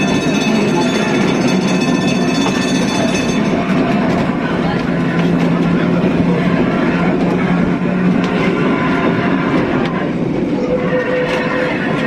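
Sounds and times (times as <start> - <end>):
tram rumbling and rattling: 0.0 - 12.0
low hum: 1.8 - 12.0.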